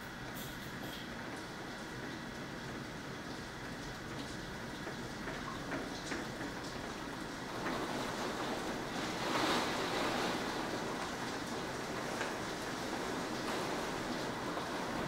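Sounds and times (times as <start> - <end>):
storm wind and rain rushing: 1.9 - 15.0.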